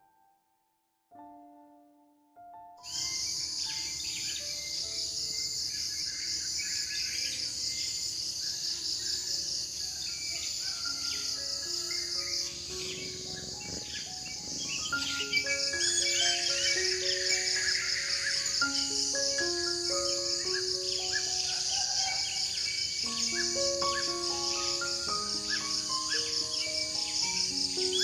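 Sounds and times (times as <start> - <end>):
slow piano melody: 0.0 - 28.0
crickets trilling: 2.8 - 28.0.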